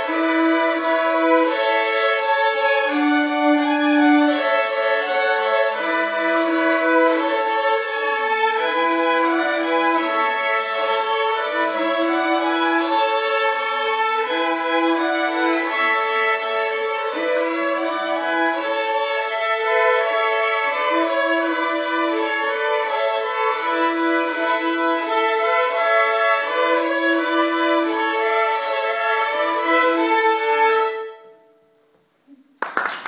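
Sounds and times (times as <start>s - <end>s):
violin playing sustained notes: 0.0s - 31.6s.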